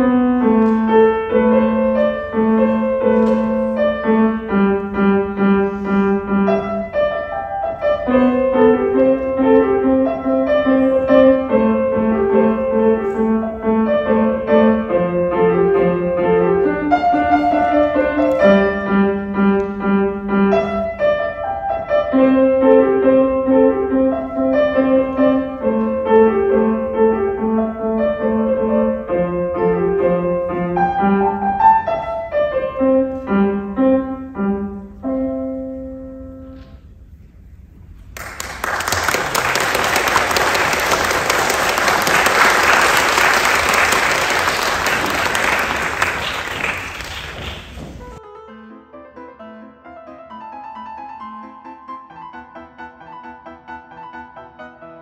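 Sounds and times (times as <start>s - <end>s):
simple piano melody: 0.0s - 38.4s, 40.2s - 55.0s.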